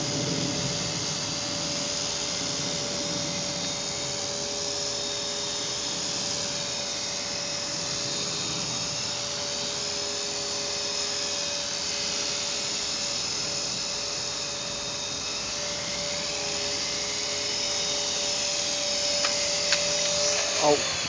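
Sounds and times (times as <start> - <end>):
toy helicopter motor whining: 0.0 - 21.0.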